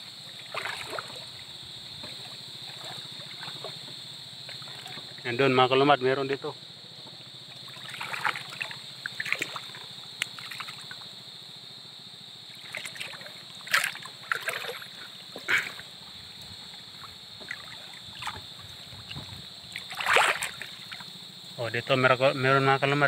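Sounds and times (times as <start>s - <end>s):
water splashing and sloshing: 0.0s - 6.0s, 6.9s - 11.2s, 12.4s - 21.6s.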